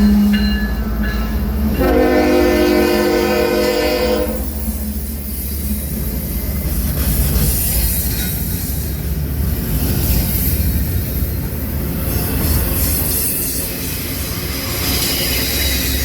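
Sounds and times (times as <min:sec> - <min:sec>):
train passing rumble: 0:00.0 - 0:16.0.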